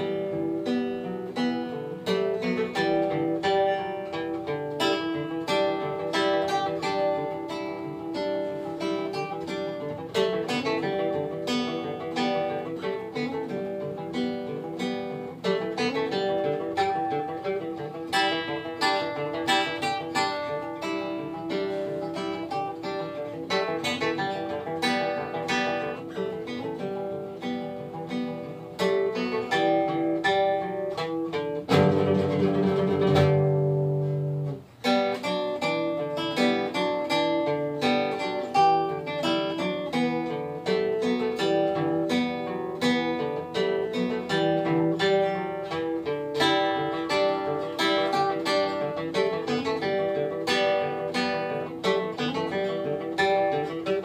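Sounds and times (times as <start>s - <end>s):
acoustic guitar picking: 0.0s - 54.0s.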